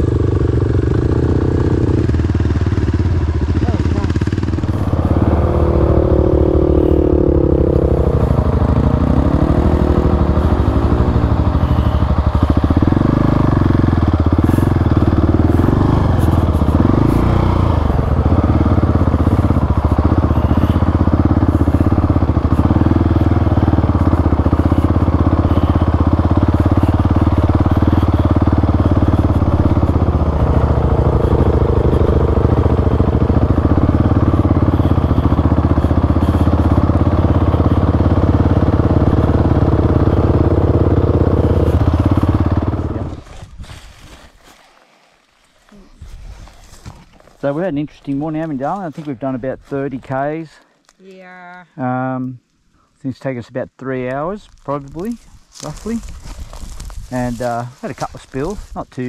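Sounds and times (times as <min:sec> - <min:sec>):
motorcycle engine revving: 0:00.0 - 0:43.5, 0:54.4 - 0:59.0.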